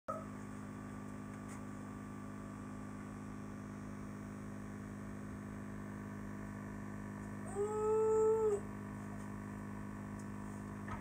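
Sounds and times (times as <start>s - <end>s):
aquarium equipment humming: 0.1s - 11.0s.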